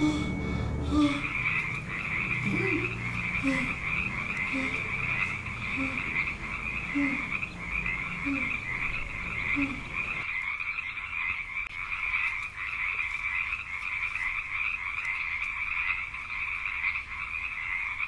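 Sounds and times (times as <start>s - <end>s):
frog low croak: 0.0s - 18.0s
high-pitched frog chorus: 0.2s - 18.0s.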